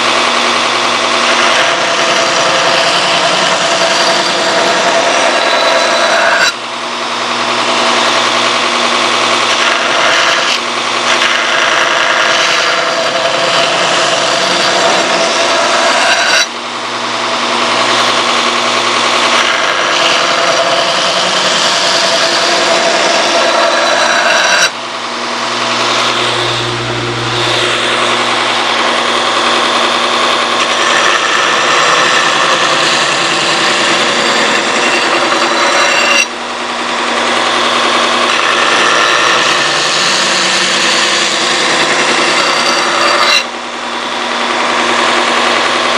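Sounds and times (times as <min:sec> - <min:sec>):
electric grinder grinding steel: 0:00.0 - 0:45.9.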